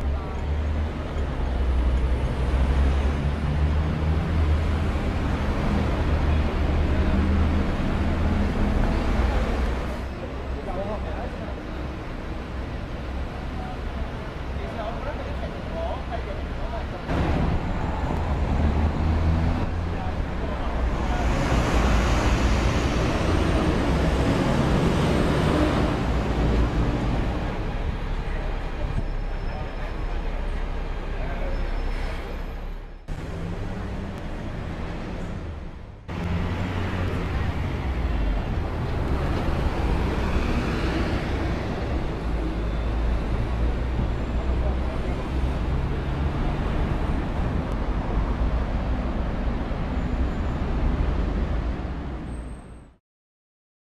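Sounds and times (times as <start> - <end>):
road traffic noise: 0.0 - 53.0.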